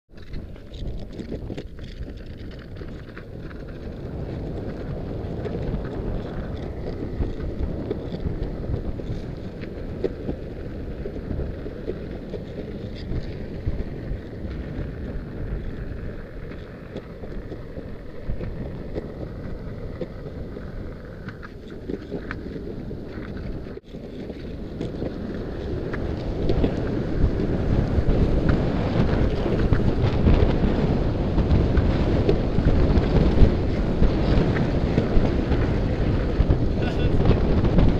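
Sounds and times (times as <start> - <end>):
skateboard wheels rolling on asphalt: 0.1 - 37.9
wind buffeting microphone: 0.1 - 37.9.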